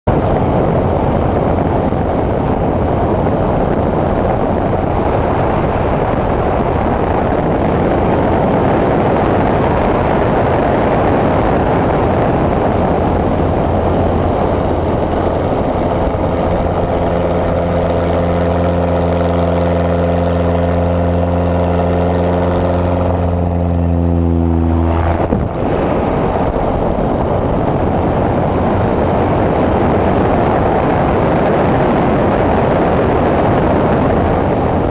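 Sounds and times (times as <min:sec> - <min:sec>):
heavy wind rush: 0:00.0 - 0:34.9
propeller plane engine running: 0:00.0 - 0:34.9.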